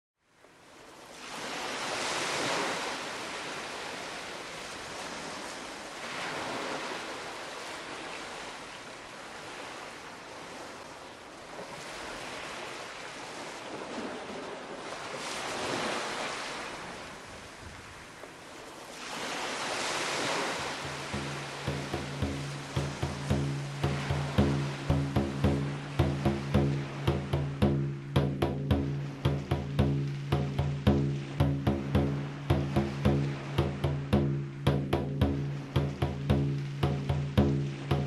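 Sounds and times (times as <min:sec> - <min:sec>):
ocean waves breaking on shore: 0:00.5 - 0:38.0.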